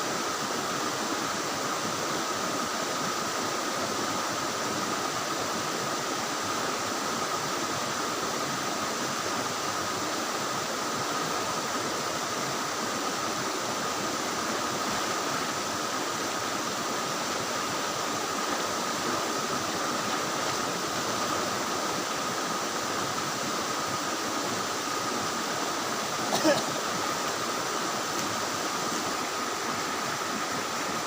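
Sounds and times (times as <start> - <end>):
waterfall and river rushing: 0.0 - 31.0.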